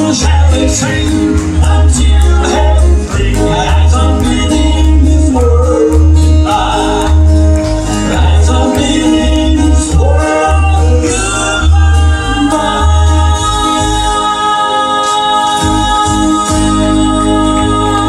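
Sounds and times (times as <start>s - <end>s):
bass line: 0.0s - 18.0s
country-style gospel band: 0.0s - 18.0s
people singing: 0.0s - 18.0s.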